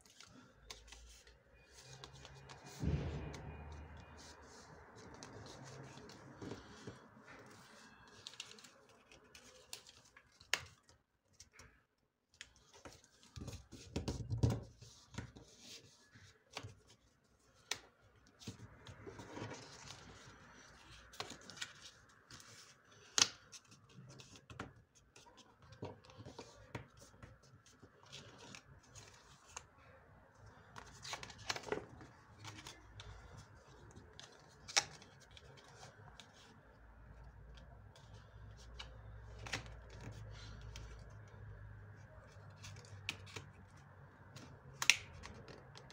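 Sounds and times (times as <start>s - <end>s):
paper rustling and crinkling: 0.0s - 11.8s, 12.4s - 41.0s.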